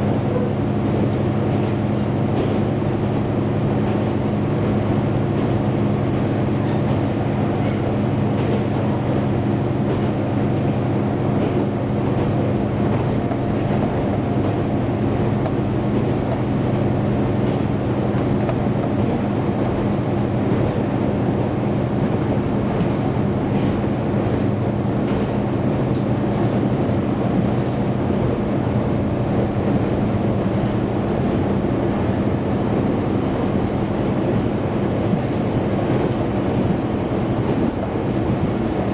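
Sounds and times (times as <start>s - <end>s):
diesel railcar engine drone: 0.0s - 38.9s
wheels rumbling on rails: 0.0s - 38.9s.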